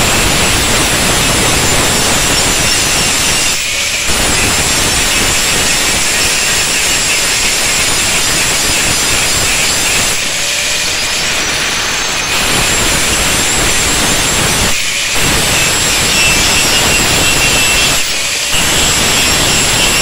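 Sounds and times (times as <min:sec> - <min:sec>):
angle grinder grinding steel: 0:00.0 - 0:20.0.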